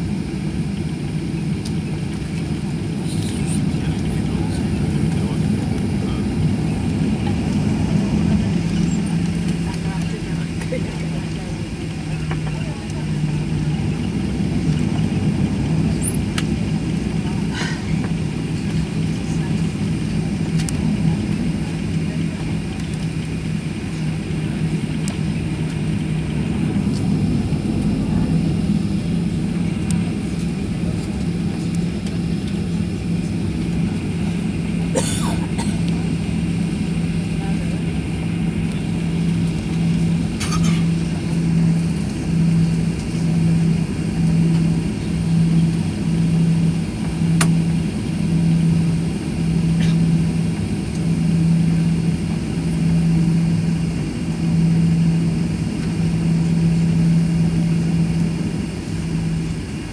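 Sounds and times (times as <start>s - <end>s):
jet engines idling in cabin: 0.0s - 59.9s.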